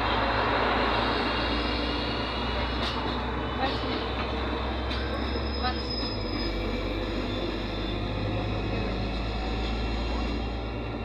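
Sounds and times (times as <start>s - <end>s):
bus diesel engine drone: 0.0s - 11.0s
road noise: 0.0s - 11.0s.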